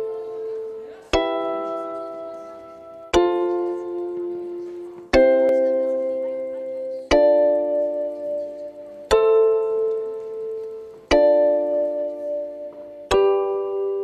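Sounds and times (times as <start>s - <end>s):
sustained keyboard chords: 0.0s - 14.0s.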